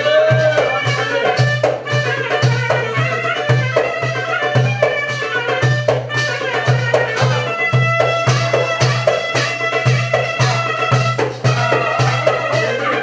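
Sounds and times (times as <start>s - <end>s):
folk dance melody: 0.0s - 13.0s
steady drum beat: 0.0s - 13.0s.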